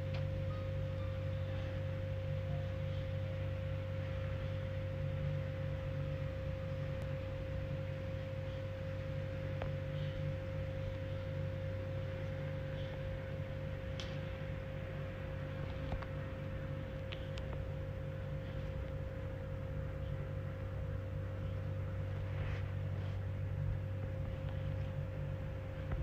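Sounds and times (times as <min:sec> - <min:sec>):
low drone with clear tone: 0:00.0 - 0:26.0.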